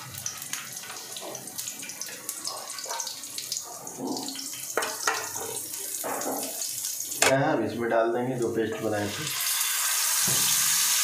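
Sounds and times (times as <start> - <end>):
vegetables sizzling in oil: 0.0 - 7.2, 8.4 - 11.0.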